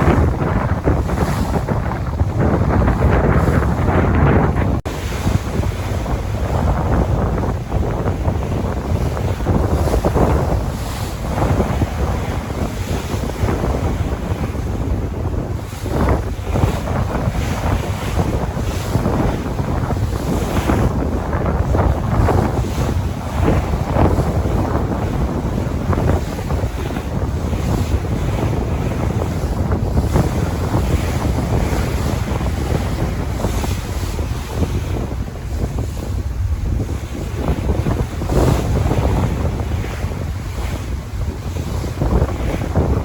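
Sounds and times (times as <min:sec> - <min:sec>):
sea waves washing: 0:00.0 - 0:43.0
wind buffeting the microphone: 0:00.0 - 0:43.0.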